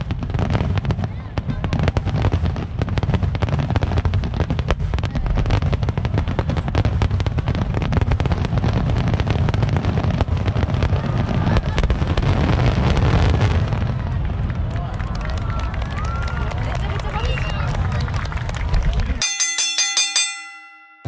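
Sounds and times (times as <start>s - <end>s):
fireworks bursting: 0.0s - 17.3s.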